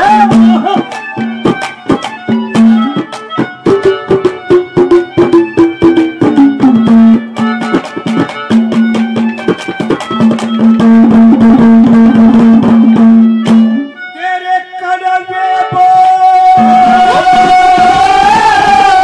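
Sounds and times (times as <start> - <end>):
held melody line: 0.0 - 19.0.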